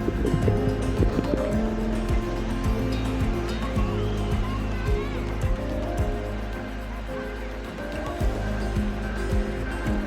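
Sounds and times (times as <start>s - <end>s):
low drum beat: 0.0s - 7.0s, 8.0s - 10.0s
held music tones: 0.0s - 10.0s.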